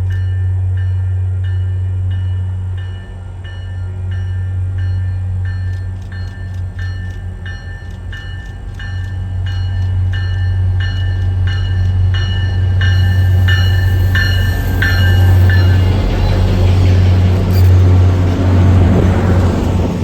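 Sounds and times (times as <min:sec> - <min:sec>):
train bell ringing: 0:00.0 - 0:18.2
diesel locomotive engine drone: 0:00.0 - 0:20.0.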